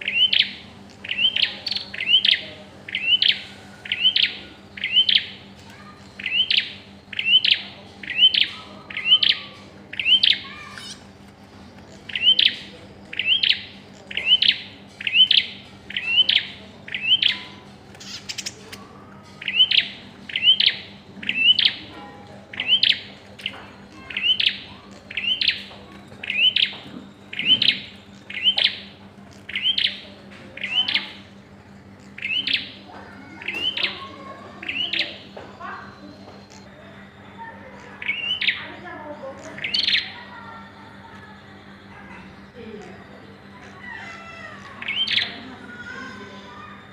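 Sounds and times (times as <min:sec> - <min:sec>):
bird chirping: 0:00.0 - 0:11.2, 0:11.8 - 0:40.5, 0:41.5 - 0:46.4.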